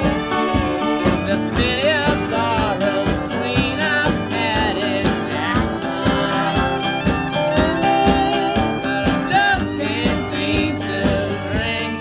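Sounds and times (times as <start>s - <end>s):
acoustic guitar strumming: 0.0s - 12.0s
fiddle: 0.0s - 12.0s
person singing: 0.0s - 12.0s.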